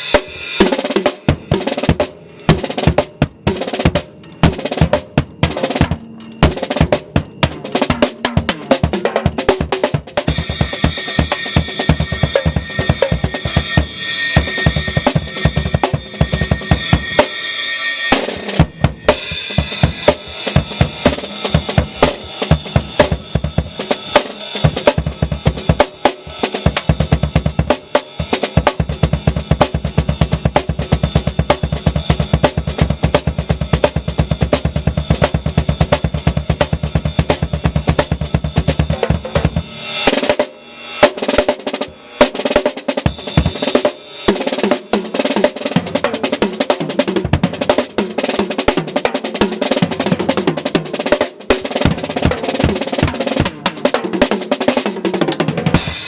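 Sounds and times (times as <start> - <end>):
ringing cymbal wash: 0.0 - 46.6, 55.8 - 56.0
bass drum and snare strokes: 0.0 - 56.0.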